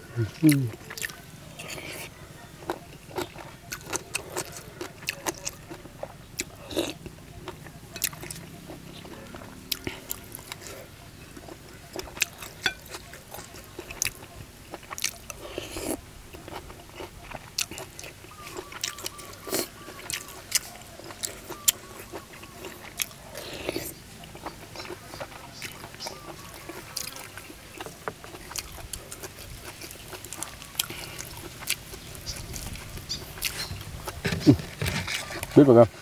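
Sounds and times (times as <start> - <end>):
crunchy chewing: 0.0 - 36.0.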